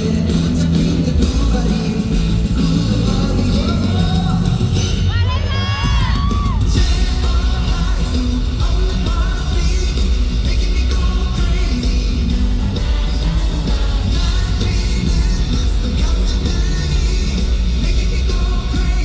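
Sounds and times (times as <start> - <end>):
live pop-rock band music: 0.0 - 19.0
person singing: 0.0 - 19.0.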